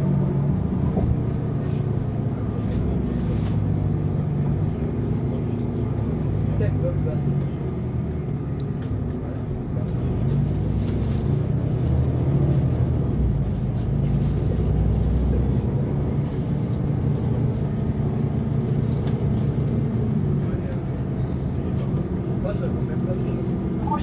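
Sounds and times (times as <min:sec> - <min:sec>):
bus engine running under load: 0:00.0 - 0:24.0
low road rumble: 0:00.0 - 0:24.0.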